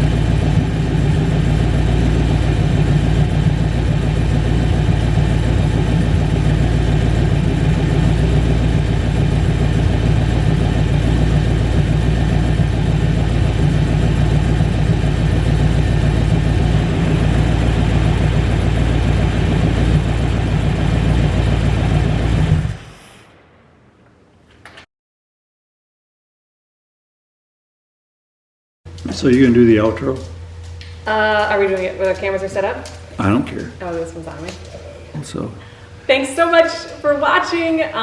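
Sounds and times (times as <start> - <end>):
engine idling loudly: 0.0 - 23.7, 28.9 - 38.0.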